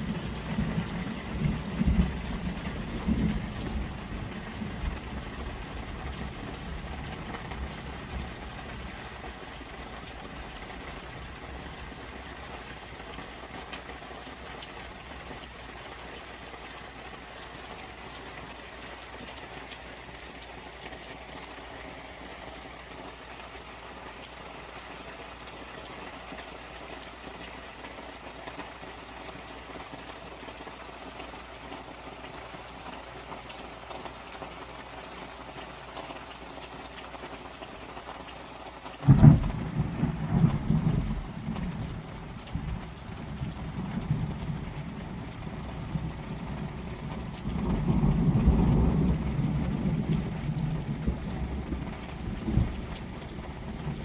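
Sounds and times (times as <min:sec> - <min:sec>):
rain pattering on tarps: 0:00.0 - 0:54.0.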